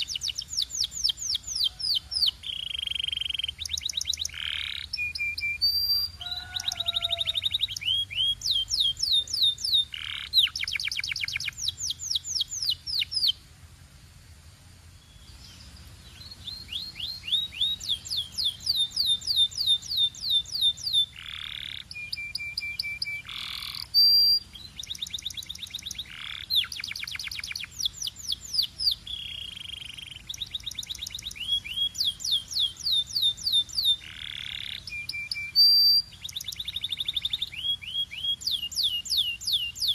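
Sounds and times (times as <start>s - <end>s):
canary singing trills: 0.0s - 13.4s, 15.0s - 39.9s.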